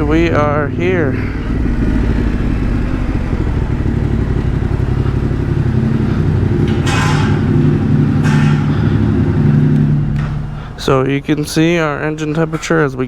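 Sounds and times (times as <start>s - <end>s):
motorcycle engine running slowly: 0.0s - 13.0s.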